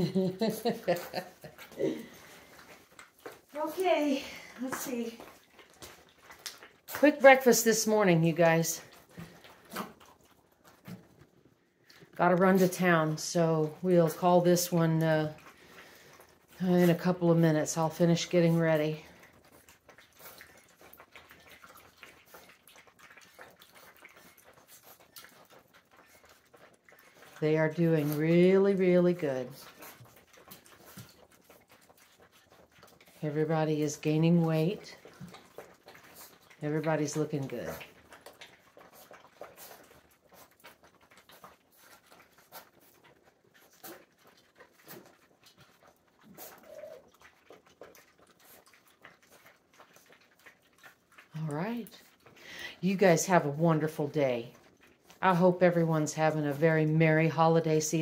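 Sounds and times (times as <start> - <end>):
puppies lapping liquid: 0.0 - 58.0
tongues clicking on metal bowl: 0.0 - 58.0.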